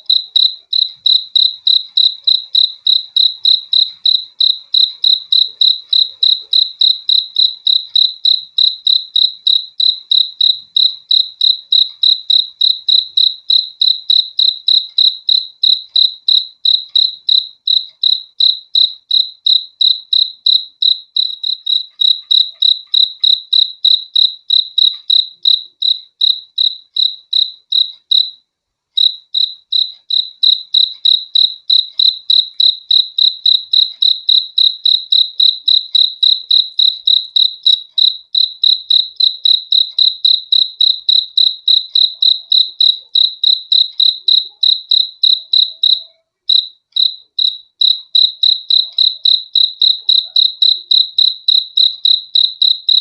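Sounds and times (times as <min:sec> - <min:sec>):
cricket chirping: 0:00.0 - 0:28.4, 0:29.0 - 0:53.0.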